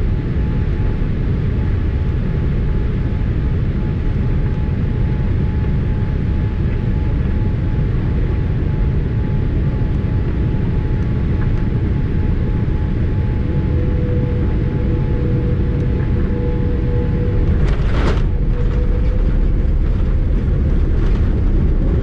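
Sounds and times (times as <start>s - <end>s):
airliner cabin engine rumble: 0.0s - 22.0s
faint steady whine: 0.0s - 22.0s.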